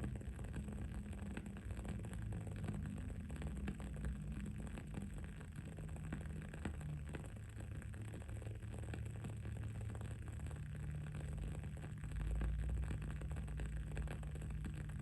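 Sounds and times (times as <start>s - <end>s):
candle crackling with pops: 0.0s - 15.0s.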